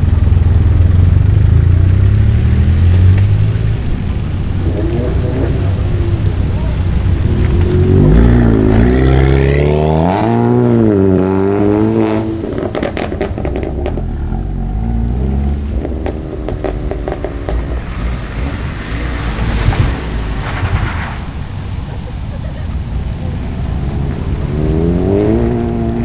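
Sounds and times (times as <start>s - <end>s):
car engine revving: 0.0s - 21.7s, 23.0s - 26.0s.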